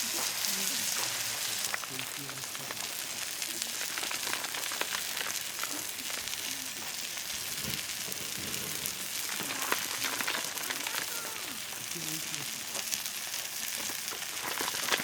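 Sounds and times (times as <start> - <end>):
fire crackling: 0.0 - 15.0
food sizzling in a pan: 0.0 - 15.0.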